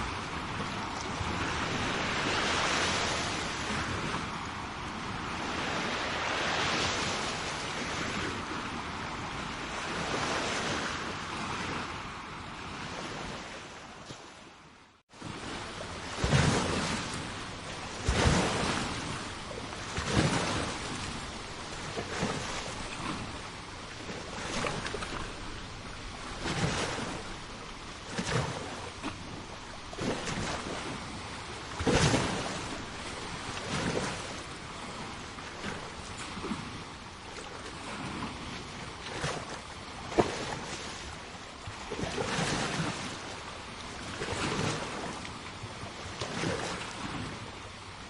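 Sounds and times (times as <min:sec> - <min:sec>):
small waves breaking on shore: 0:00.0 - 0:48.0.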